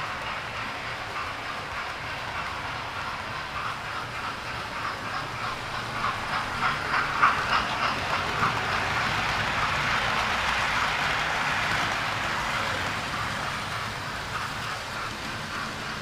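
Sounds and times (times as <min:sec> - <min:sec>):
model train rolling whir: 0:00.0 - 0:16.0
model train wheels clicking: 0:00.0 - 0:16.0.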